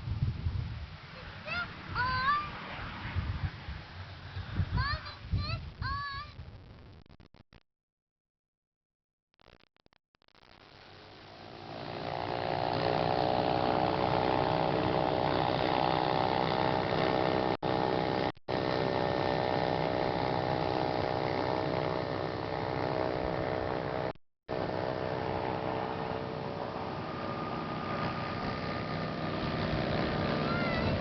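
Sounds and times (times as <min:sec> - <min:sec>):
light aircraft engine droning: 0:00.0 - 0:05.4, 0:10.9 - 0:31.0.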